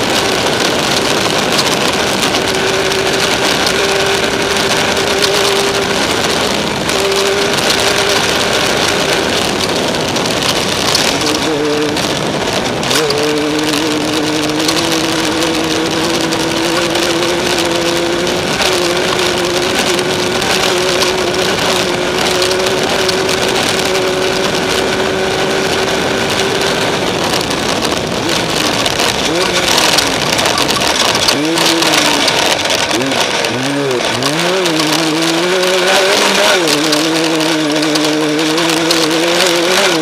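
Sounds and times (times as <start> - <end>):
loud rushing noise: 0.0 - 40.0
race vehicle engine running: 0.0 - 40.0.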